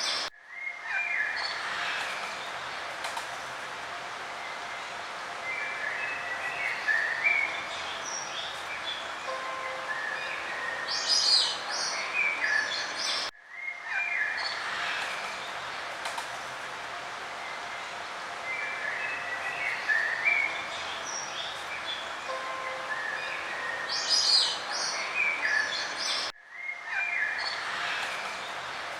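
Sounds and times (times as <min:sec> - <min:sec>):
outdoor background hiss: 0:00.0 - 0:28.9
songbirds chirping: 0:00.0 - 0:28.9.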